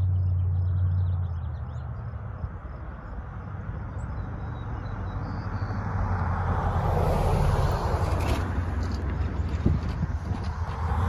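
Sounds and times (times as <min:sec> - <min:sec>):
truck engine and tyre noise: 0:00.0 - 0:11.0.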